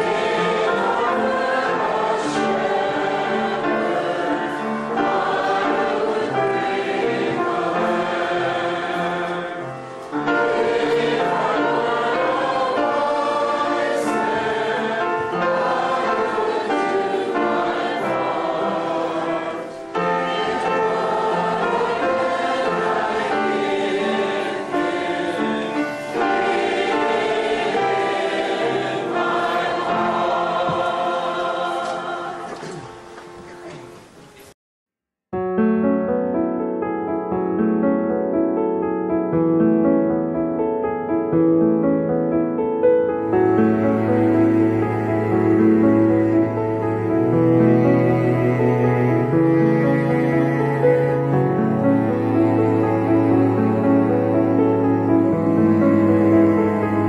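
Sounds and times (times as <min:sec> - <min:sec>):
choir singing: 0:00.0 - 0:33.8, 0:43.2 - 0:57.0.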